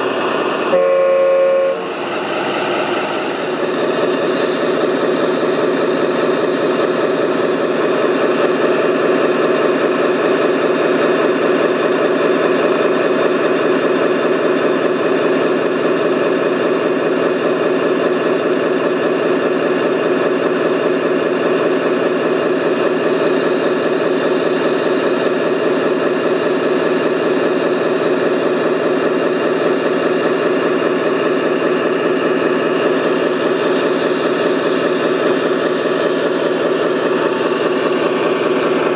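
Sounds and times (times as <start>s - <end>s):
model machine engine idling: 3.7s - 38.9s.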